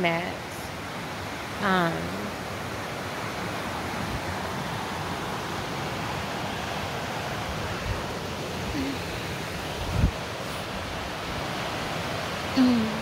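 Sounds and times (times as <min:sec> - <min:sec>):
steady rushing noise: 0:00.3 - 0:12.6.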